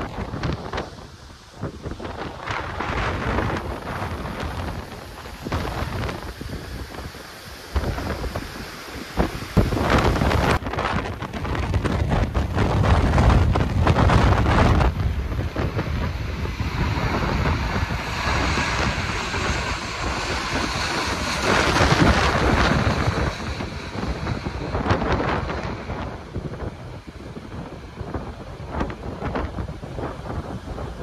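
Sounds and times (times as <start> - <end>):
gusty wind buffeting microphone: 0.0 - 31.0
jet engines of landing plane: 0.0 - 31.0.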